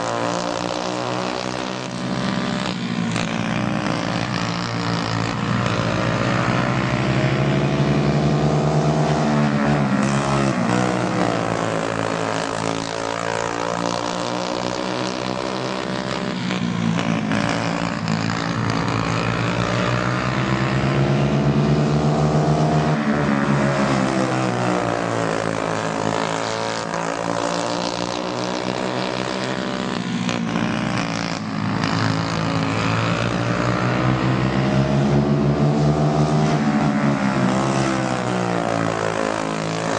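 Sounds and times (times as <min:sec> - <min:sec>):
kart engines racing: 0:00.0 - 0:39.9.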